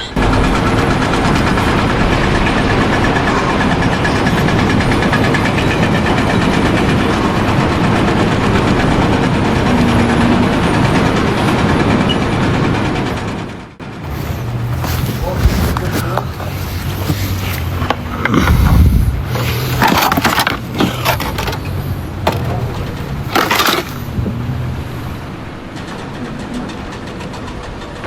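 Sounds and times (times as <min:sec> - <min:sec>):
large engine running: 0:00.0 - 0:28.0.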